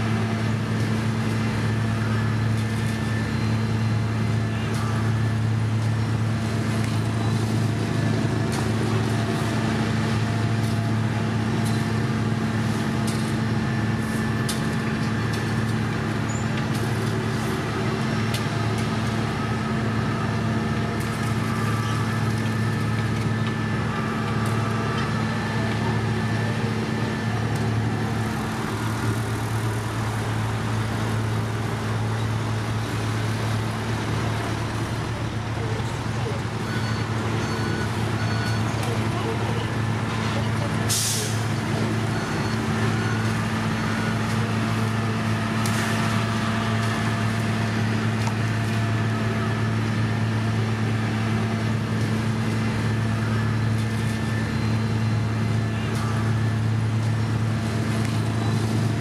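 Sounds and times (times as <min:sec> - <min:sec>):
diesel machinery engine hum: 0:00.0 - 0:59.0.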